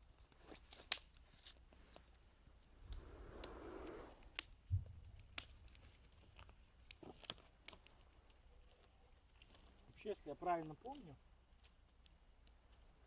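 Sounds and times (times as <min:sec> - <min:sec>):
campfire crackling: 0:00.0 - 0:13.0
rustle: 0:00.0 - 0:13.0.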